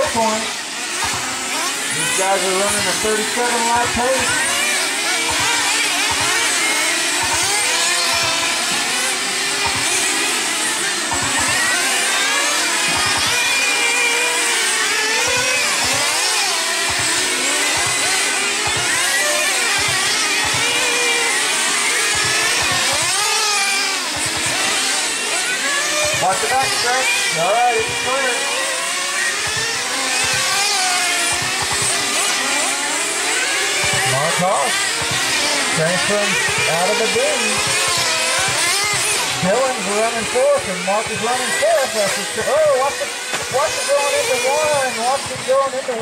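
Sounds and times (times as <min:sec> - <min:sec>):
electric rc car motors whining: 0:00.0 - 0:46.0.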